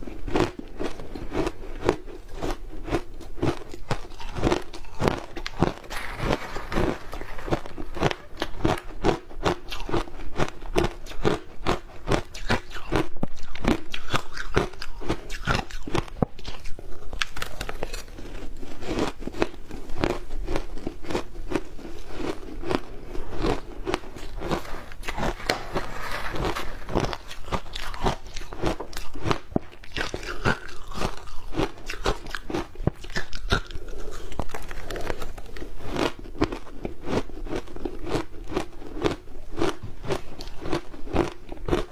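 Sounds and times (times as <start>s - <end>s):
ice crunching while chewing: 0.0s - 41.9s.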